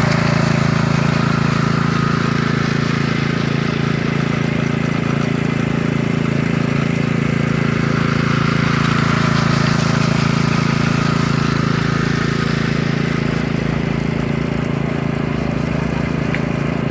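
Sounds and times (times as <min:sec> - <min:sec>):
petrol engine running: 0:00.0 - 0:16.9.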